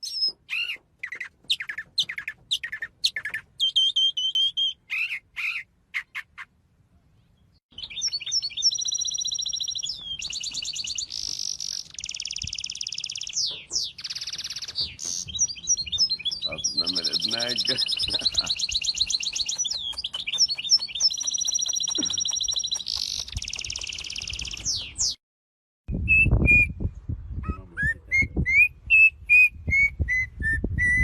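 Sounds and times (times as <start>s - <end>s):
songbird singing: 0.0s - 25.2s.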